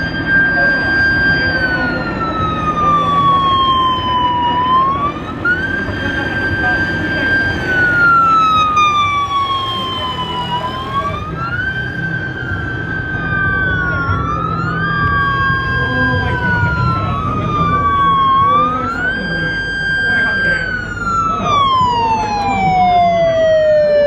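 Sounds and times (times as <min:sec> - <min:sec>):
emergency sirens wailing: 0:00.0 - 0:24.0
vehicle engines rumbling: 0:00.0 - 0:24.0.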